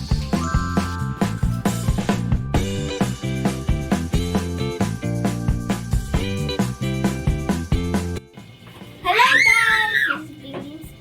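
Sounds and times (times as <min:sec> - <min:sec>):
upbeat music with drums and guitar: 0:00.0 - 0:09.0.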